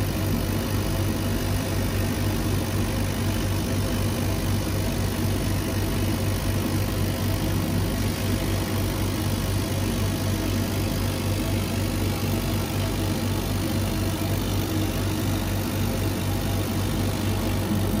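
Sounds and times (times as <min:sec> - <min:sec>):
laser cutter humming: 0:00.0 - 0:18.0.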